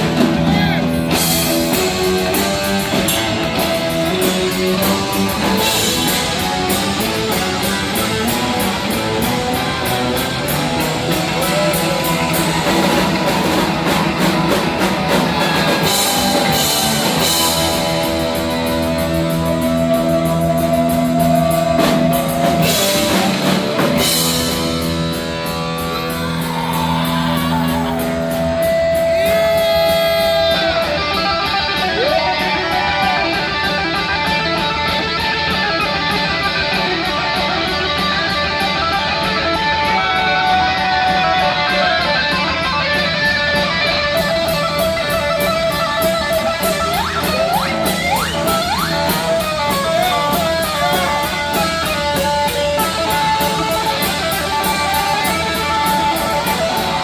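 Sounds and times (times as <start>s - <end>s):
heavy metal band playing live: 0.0s - 57.0s
held guitar notes with bends: 0.0s - 57.0s.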